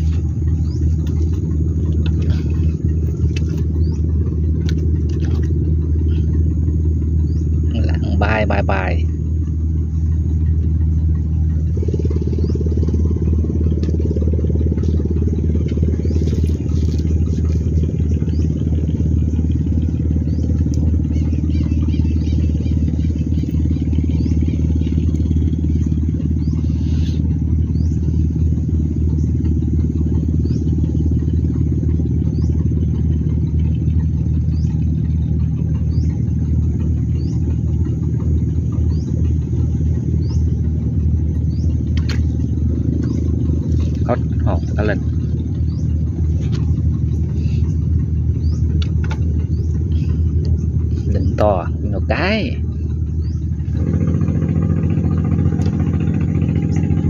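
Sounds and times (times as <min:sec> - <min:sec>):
motor engine humming: 0:00.0 - 0:57.0.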